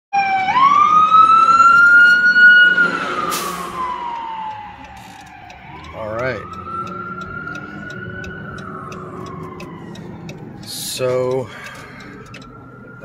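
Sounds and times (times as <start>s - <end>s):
siren wailing: 0.1s - 13.0s.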